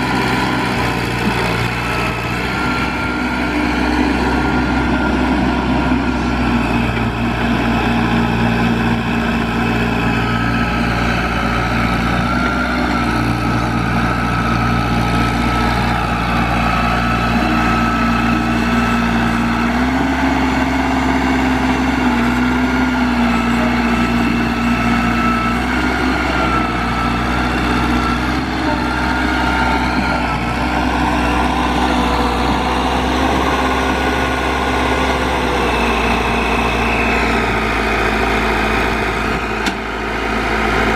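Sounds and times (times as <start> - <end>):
trencher engine running: 0.0 - 40.9.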